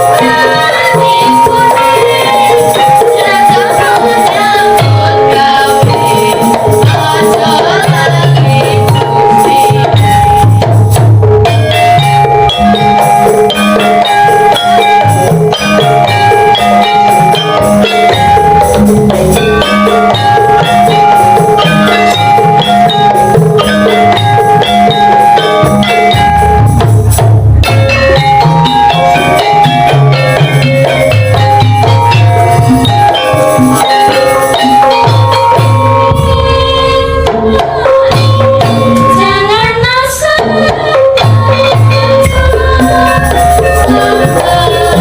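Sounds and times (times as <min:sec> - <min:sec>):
metallophones ringing: 0:00.0 - 0:45.0.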